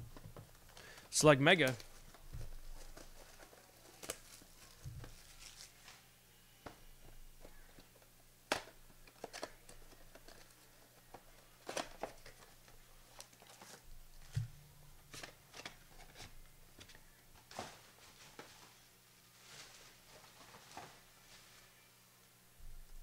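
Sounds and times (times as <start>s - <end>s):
cards and wrappers rustling: 0.1s - 14.4s, 15.0s - 21.8s.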